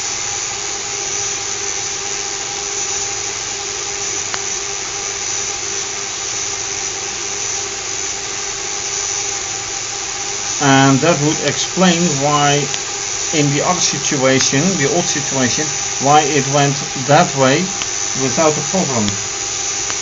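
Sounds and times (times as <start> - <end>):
small electric motor whining: 0.0 - 20.0.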